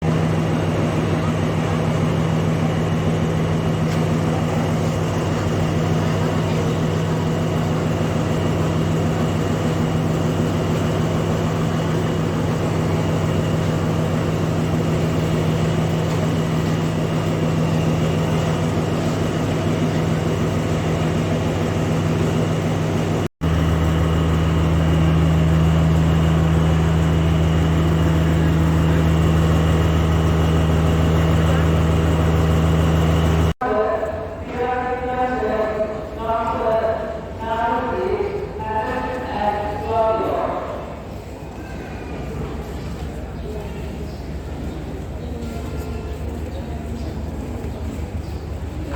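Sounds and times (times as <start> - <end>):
diesel locomotive idling: 0.0 - 48.9
faint voices: 0.5 - 22.8, 24.0 - 48.9.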